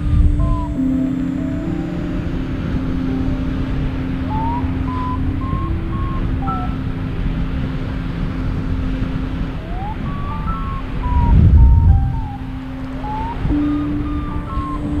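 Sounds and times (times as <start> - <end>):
ambient synth music: 0.0 - 15.0
wind rumbling on microphone: 0.0 - 15.0.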